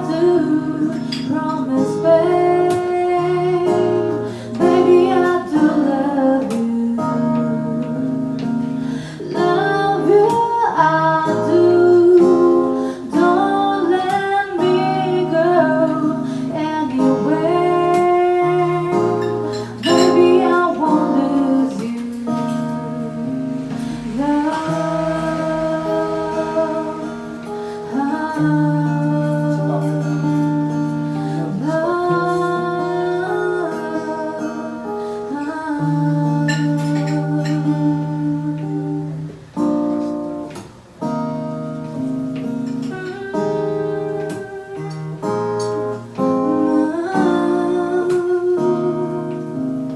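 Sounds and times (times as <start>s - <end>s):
woman singing: 0.0s - 40.7s, 41.6s - 49.9s
guitar: 0.0s - 49.9s.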